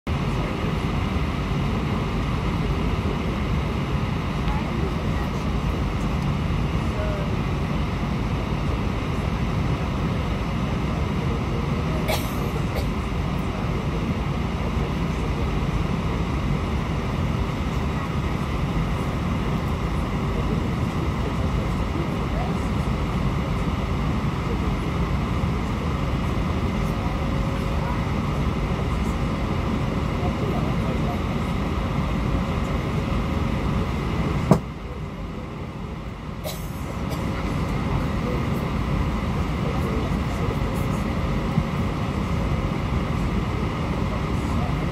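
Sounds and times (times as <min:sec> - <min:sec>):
airliner engine rumble: 0:00.1 - 0:44.9.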